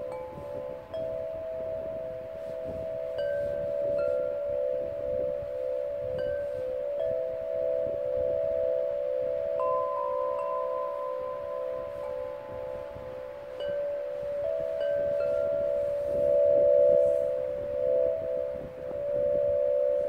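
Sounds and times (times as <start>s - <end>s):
glass tube chimes ringing: 0.0s - 20.0s.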